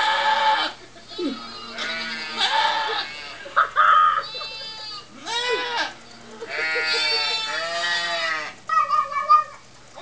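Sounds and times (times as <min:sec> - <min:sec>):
goats bleating through speakers: 0:00.0 - 0:08.6.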